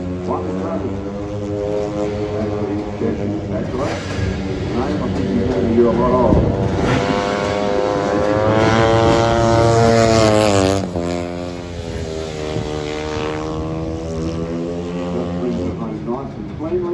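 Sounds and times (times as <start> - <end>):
motorcycle engine revving high: 0.0 - 16.7.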